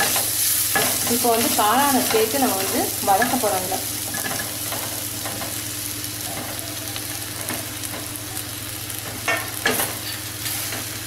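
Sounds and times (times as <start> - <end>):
mushrooms sizzling in oil: 0.0 - 11.0.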